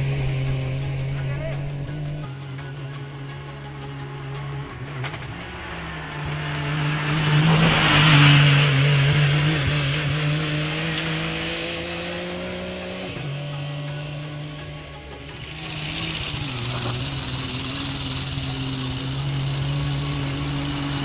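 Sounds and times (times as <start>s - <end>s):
buggy engine accelerating past: 0.0s - 21.0s.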